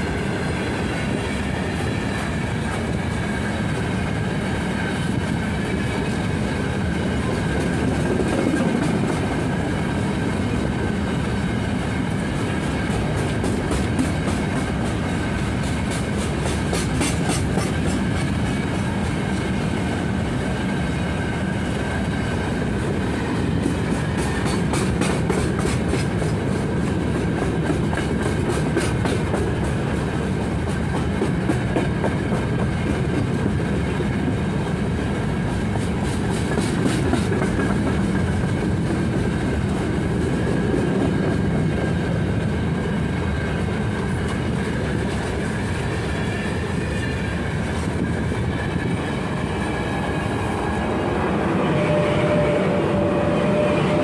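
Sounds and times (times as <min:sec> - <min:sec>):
heavy rumble of train wheels: 0:00.0 - 0:54.0.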